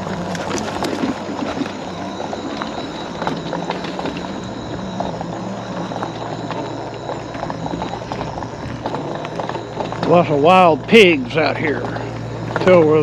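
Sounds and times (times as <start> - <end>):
mobility scooter motor hum: 0.0 - 13.0.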